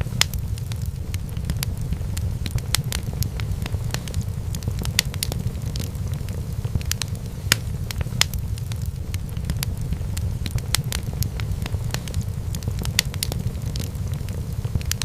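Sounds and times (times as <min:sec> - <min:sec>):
fire crackling and popping: 0:00.0 - 0:15.0
low rumble of burning: 0:00.0 - 0:15.0.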